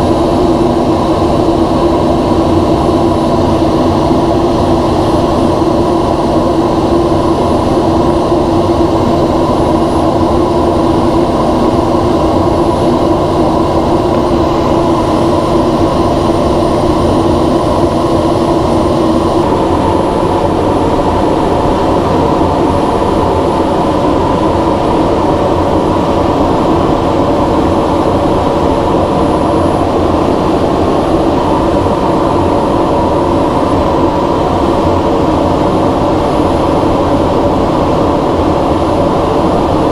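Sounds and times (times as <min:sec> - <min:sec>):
airflow rushing: 0:00.0 - 0:39.9
jet engine drone in cockpit: 0:00.0 - 0:39.9
layered hum: 0:00.0 - 0:39.9.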